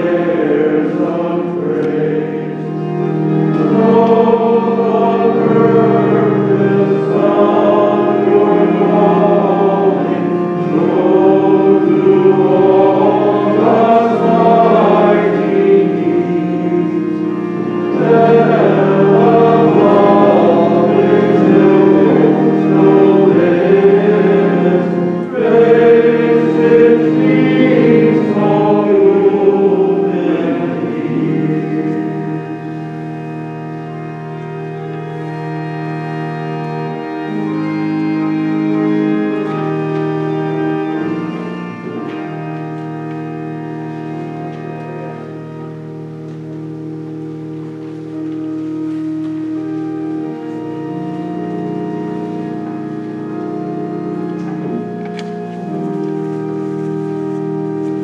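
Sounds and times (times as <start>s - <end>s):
choir singing a hymn: 0.0s - 42.7s, 47.6s - 58.0s
sustained organ chords: 0.0s - 58.0s.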